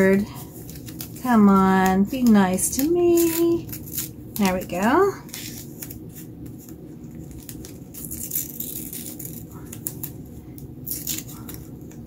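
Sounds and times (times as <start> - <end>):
tape crinkling and peeling: 0.0 - 12.0.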